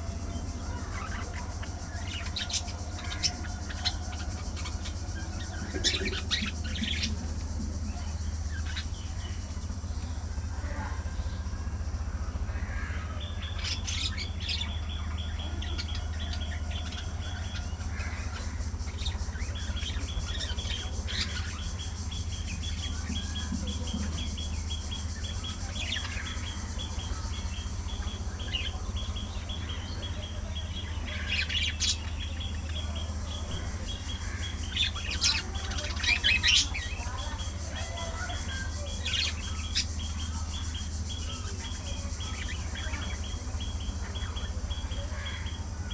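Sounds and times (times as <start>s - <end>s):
sharp bird calls: 0.0s - 45.9s
steady low hum: 0.0s - 45.9s
budgerigars chirping: 0.2s - 9.5s, 12.6s - 45.9s.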